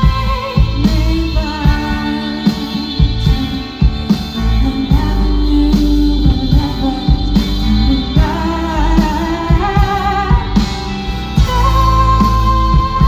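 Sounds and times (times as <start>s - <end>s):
bass: 0.0s - 13.0s
guitar: 0.0s - 13.0s
live rock band playing: 0.0s - 13.0s.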